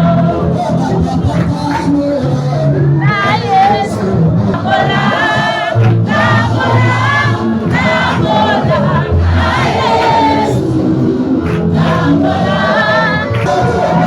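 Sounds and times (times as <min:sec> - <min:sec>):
choir singing gospel: 0:00.0 - 0:14.0.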